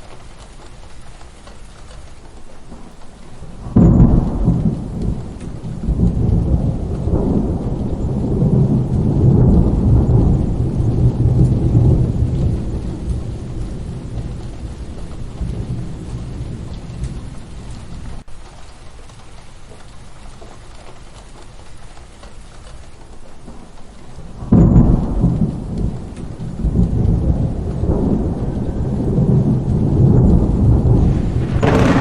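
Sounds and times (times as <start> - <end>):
thunder rumbling: 0.0 - 20.2, 21.0 - 32.0
rain falling: 0.0 - 32.0.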